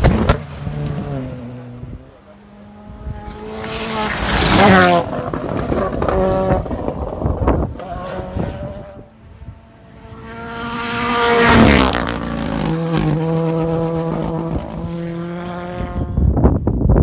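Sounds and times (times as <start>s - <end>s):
rally car engine passing by: 0.0s - 16.2s
wind on microphone: 0.0s - 17.0s.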